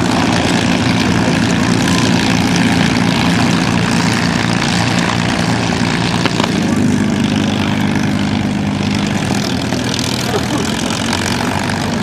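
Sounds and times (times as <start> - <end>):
propeller engines droning: 0.0 - 12.0.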